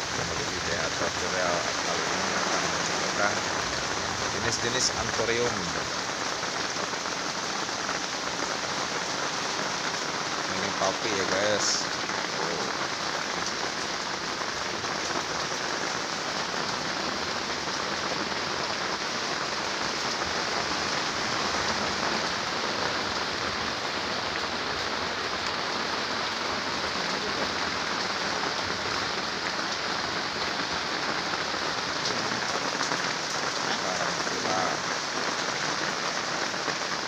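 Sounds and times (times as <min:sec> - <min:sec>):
rain-like hiss: 0:00.0 - 0:37.0.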